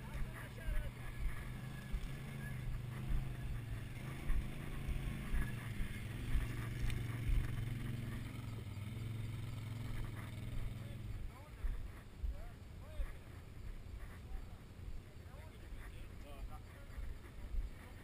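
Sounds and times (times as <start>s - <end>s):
atv engine idling: 0.0s - 18.0s.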